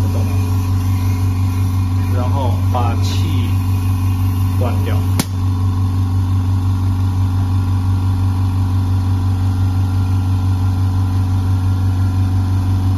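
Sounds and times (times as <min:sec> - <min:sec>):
pneumatic grinder humming: 0:00.0 - 0:12.9.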